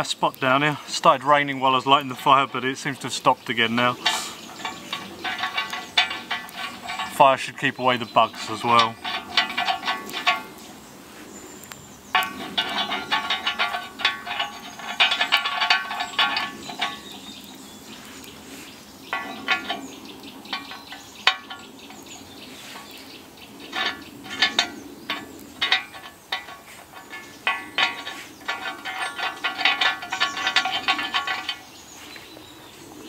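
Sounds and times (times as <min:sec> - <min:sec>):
metal clinking and rattling: 0:00.1 - 0:11.0, 0:11.6 - 0:33.0.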